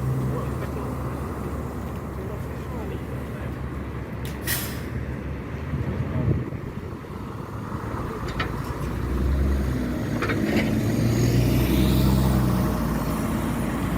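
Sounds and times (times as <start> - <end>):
bus engine pulling away: 0.0 - 13.9.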